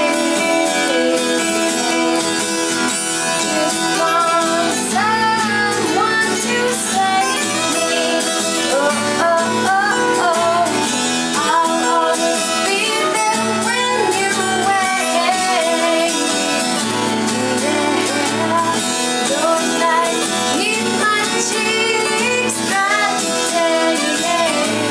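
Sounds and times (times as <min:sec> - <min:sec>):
person singing: 0:00.0 - 0:24.9
strummed acoustic guitar: 0:00.0 - 0:24.9.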